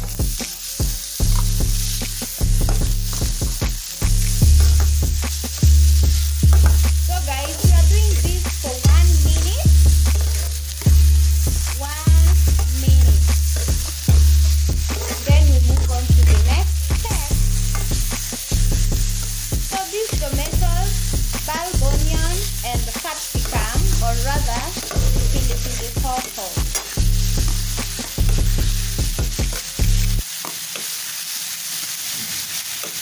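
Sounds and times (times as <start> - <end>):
spoon scraping a pan: 0.0 - 33.0
vegetables sizzling in a pan: 0.0 - 33.0.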